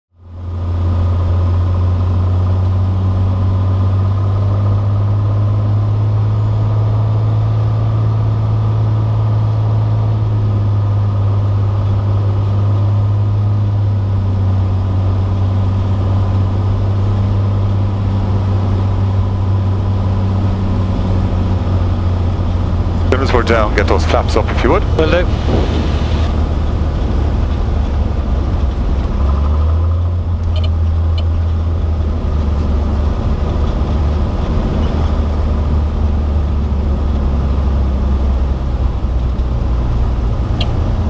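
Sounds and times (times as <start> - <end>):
propeller plane engine droning: 0.1 - 41.0.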